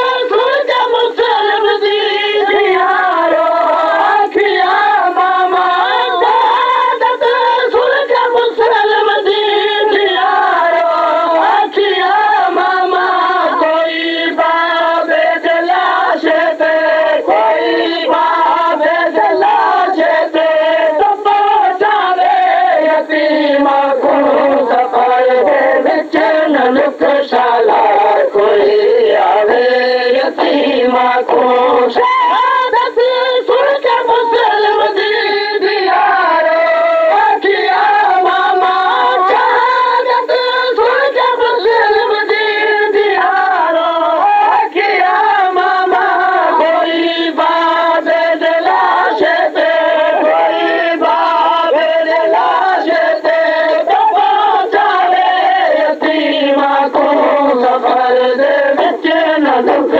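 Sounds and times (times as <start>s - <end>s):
person chanting a lament: 0.0s - 59.9s.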